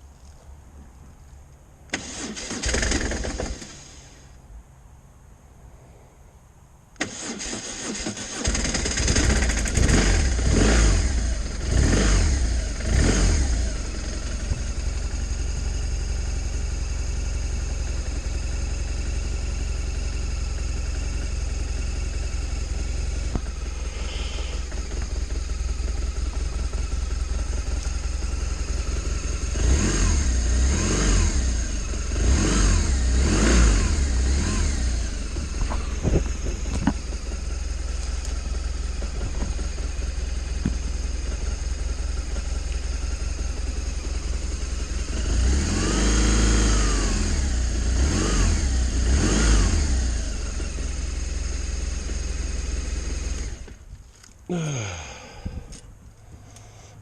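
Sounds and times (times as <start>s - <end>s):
motorcycle engine revving: 1.9s - 4.2s, 7.1s - 55.8s.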